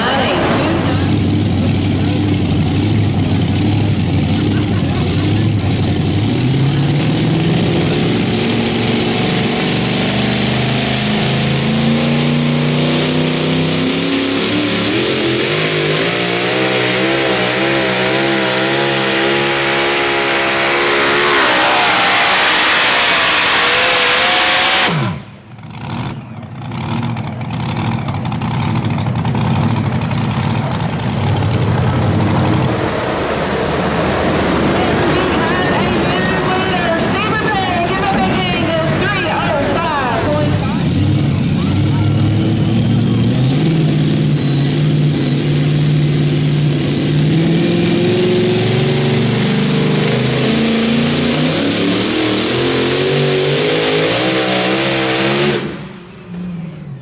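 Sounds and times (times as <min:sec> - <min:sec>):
engine at full throttle: 0:00.0 - 0:56.3.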